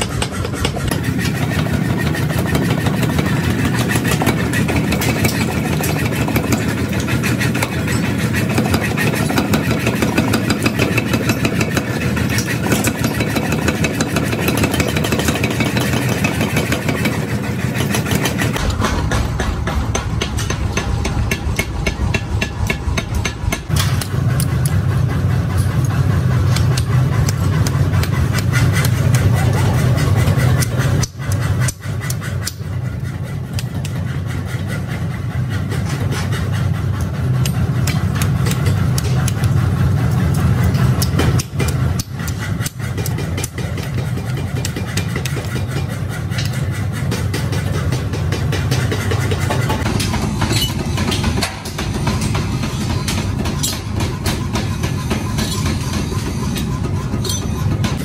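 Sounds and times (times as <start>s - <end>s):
hammers striking steel on anvils: 0.0s - 58.0s
workshop machinery droning: 0.0s - 58.0s.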